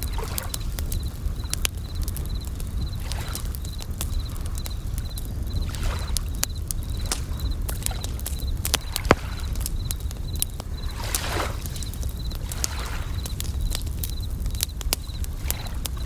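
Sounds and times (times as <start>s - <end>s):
campfire crackling and popping: 0.0s - 16.0s
crickets chirping: 0.0s - 16.0s.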